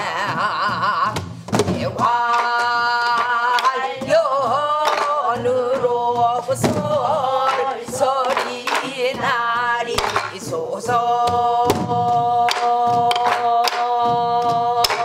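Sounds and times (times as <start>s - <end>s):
woman singing folk song: 0.0s - 15.0s.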